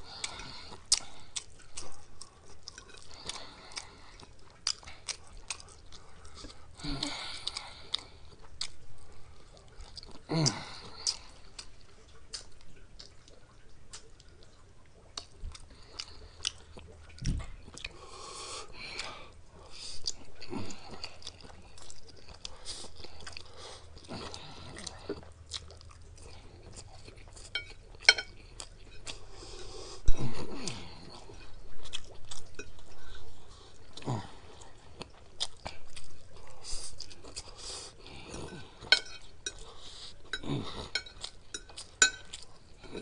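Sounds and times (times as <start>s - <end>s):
man chewing noodles: 0.0s - 43.0s.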